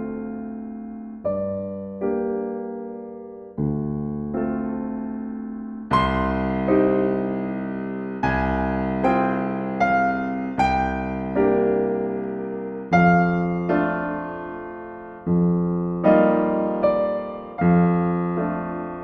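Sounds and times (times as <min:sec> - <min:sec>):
gentle solo piano chords: 0:00.0 - 0:19.0.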